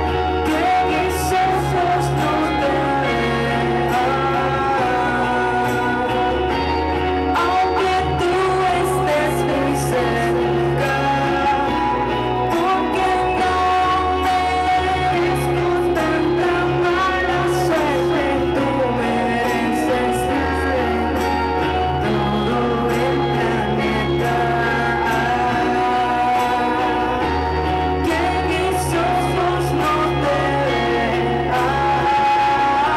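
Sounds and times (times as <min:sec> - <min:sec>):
woman singing: 0:00.0 - 0:06.7, 0:07.4 - 0:32.9
band playing: 0:00.0 - 0:32.9
electric guitar: 0:00.0 - 0:32.9.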